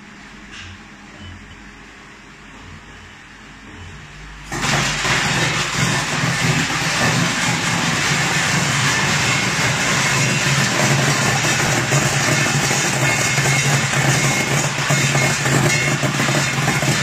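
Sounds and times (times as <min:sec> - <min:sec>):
machine running with low hum: 0:00.0 - 0:17.0.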